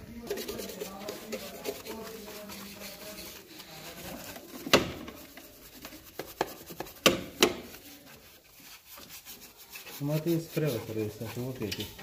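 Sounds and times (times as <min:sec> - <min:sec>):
brush scrubbing foam: 0:00.0 - 0:12.0.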